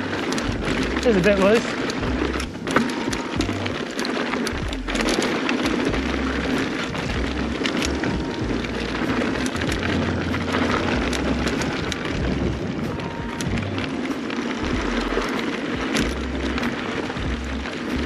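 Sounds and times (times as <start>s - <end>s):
bike rattling with clicks: 0.0s - 18.0s
tyres crunching over gravel: 0.0s - 18.0s
wind buffeting microphone: 0.0s - 18.0s.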